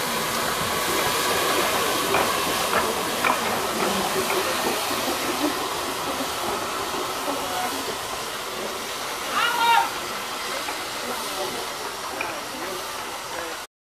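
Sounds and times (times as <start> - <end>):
steam hissing: 0.0 - 13.7
steam locomotive moving slowly: 0.0 - 13.7.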